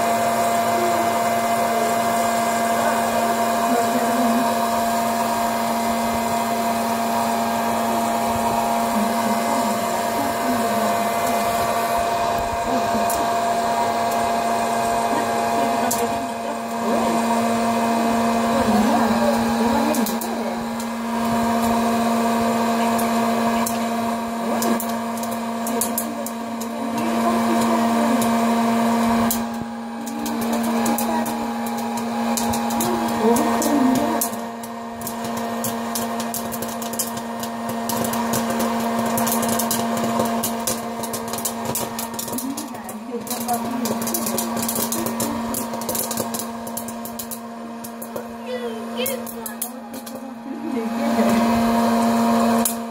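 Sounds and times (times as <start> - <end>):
popcorn popper fan humming: 0.0 - 52.9.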